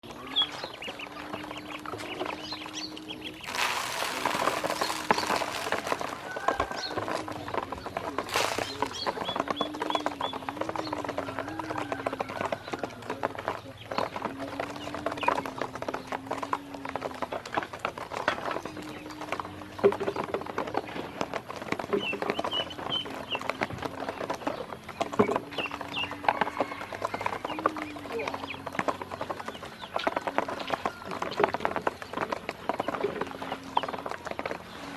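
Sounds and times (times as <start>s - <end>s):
ducklings peeping: 0.0s - 34.9s
rustling clicking noise: 0.0s - 34.9s.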